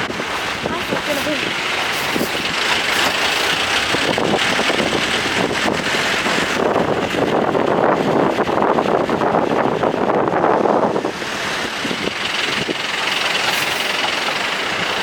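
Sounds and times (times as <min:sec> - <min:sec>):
pickup engine and road noise: 0:00.0 - 0:15.0
wind rushing over microphone: 0:00.0 - 0:15.0.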